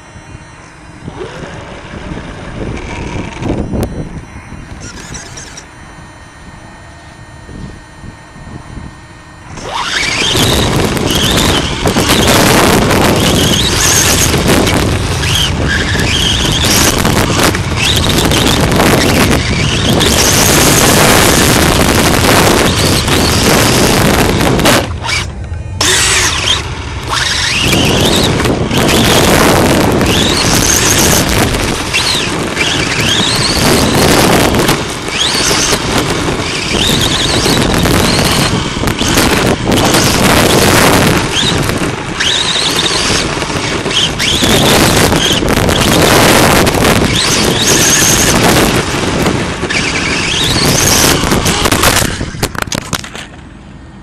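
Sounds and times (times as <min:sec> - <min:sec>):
dirt and wind noise: 0:00.0 - 0:54.0
electric motor whine: 0:00.0 - 0:54.0.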